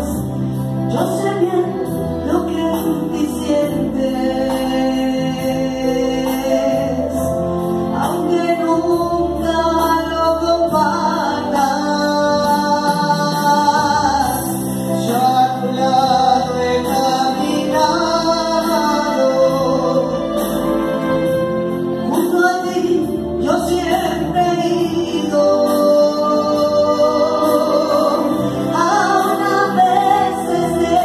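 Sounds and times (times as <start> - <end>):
electronic keyboard chords: 0.0 - 31.0
person singing into microphone: 0.0 - 31.0.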